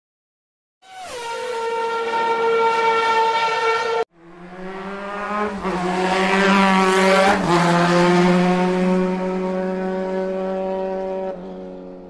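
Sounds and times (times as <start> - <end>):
racing motorcycle engine: 0.8 - 12.0.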